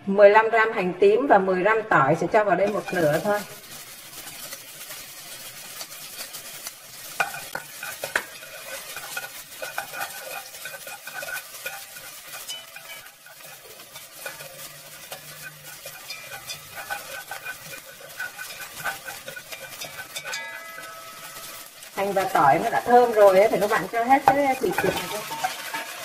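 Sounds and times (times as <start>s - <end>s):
shallot and garlic sizzling in oil: 2.0s - 26.0s
chopsticks ticking against pot: 2.7s - 25.9s.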